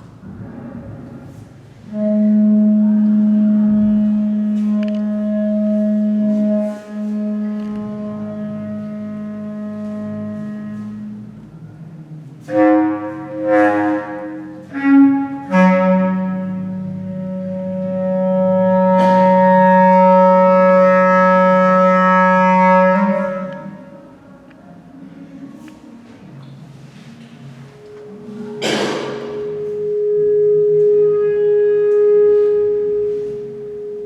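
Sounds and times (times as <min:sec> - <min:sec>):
bass clarinet playing: 0:00.0 - 0:24.4, 0:26.4 - 0:34.0.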